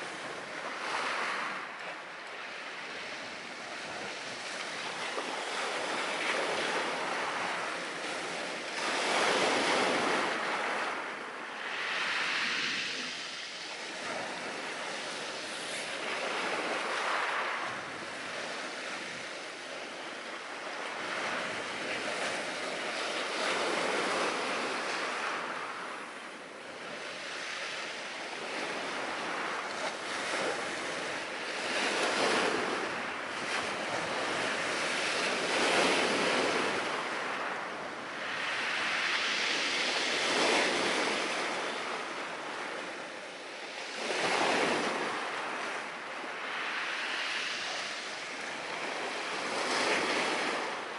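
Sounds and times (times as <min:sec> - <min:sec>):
ocean surf washing on shore: 0:00.0 - 0:50.9.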